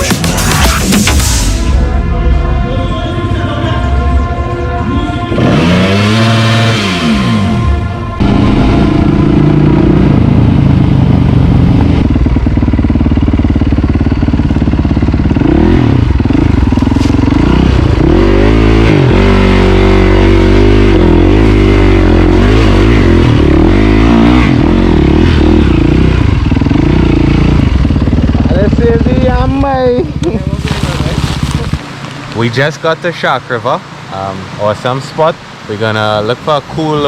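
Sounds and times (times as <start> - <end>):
motorcycle engine running: 1.8 - 32.4.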